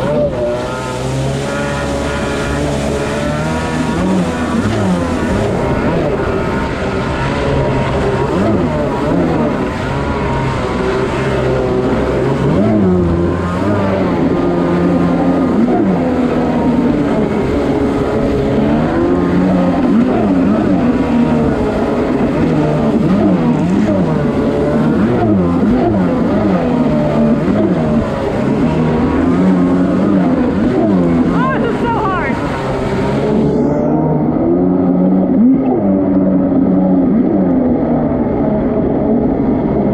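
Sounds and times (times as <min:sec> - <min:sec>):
water spray rushing: 0:00.0 - 0:33.5
jet ski engine revving: 0:00.0 - 0:39.9.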